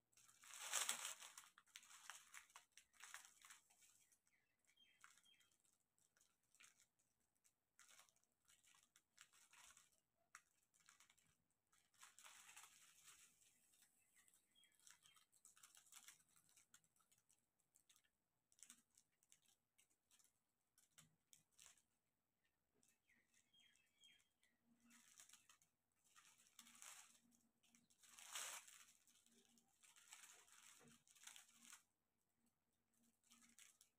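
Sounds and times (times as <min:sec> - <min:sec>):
plastic film crinkling: 0:00.1 - 0:33.9.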